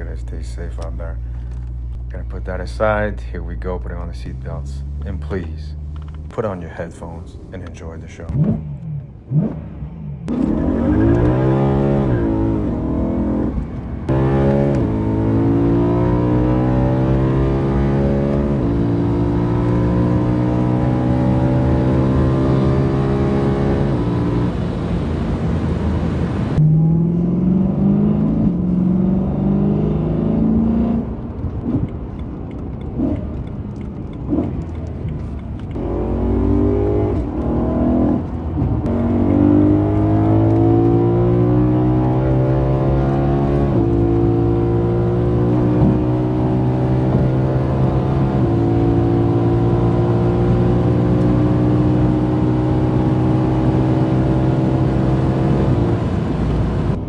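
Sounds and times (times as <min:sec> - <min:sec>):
car engine accelerating through gears: 0:07.5 - 0:57.0.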